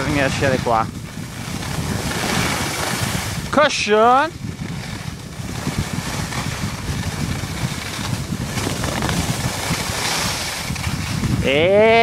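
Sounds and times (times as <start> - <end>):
skis sliding over snow: 0.0 - 12.0
wind buffeting microphone: 0.0 - 12.0.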